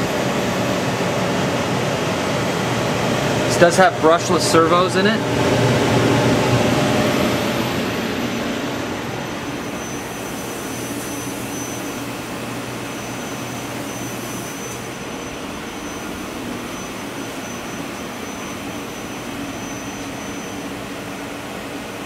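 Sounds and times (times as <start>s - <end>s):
faint high whine: 0.0s - 22.0s
machine cabinet whir and hum: 0.0s - 22.0s.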